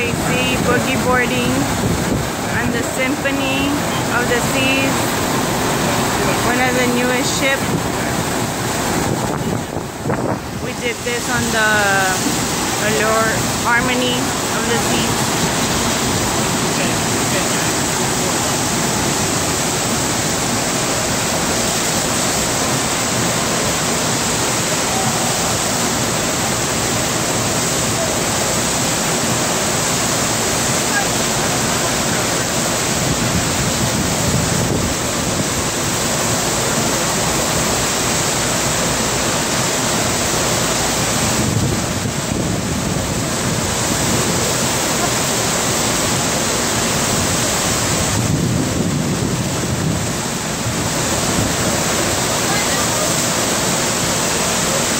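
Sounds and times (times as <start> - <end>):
rushing sheet of water: 0.0 - 54.9.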